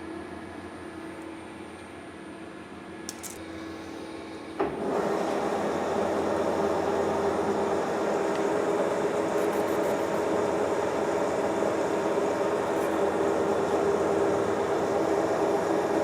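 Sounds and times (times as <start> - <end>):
machine hum: 3.0 - 16.0.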